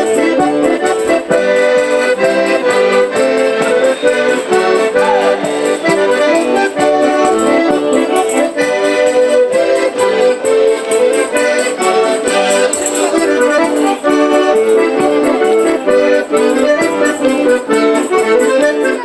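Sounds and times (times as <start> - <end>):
light high percussion: 0.0 - 19.0
piano accordion playing folk tune: 0.0 - 19.0.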